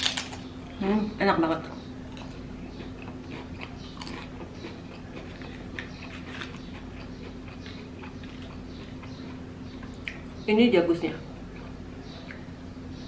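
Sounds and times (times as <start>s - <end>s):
chewing crunchy food: 0.0s - 0.8s, 1.8s - 10.4s, 11.2s - 12.6s
steady low hum: 0.0s - 13.0s.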